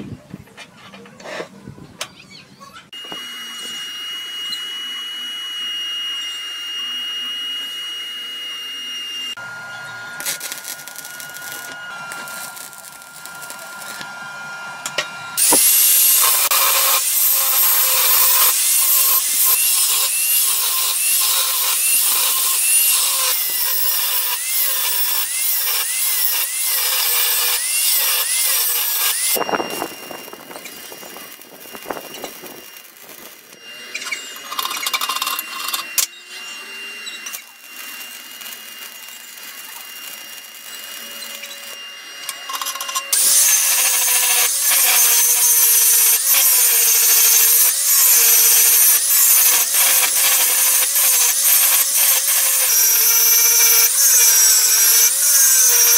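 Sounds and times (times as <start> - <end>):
power tools whining: 0.6 - 55.9
angle grinder cutting steel: 2.9 - 55.9
arc welding crackle: 9.3 - 14.1, 14.9 - 55.9.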